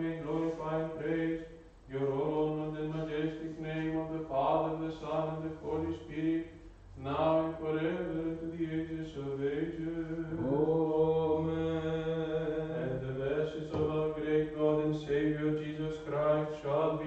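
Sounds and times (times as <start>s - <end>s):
steady low drone: 0.0s - 15.7s
man chanting: 0.0s - 17.0s.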